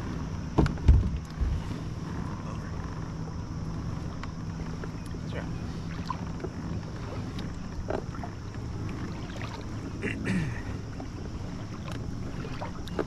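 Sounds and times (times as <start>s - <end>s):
water lapping around kayak: 0.0s - 13.0s.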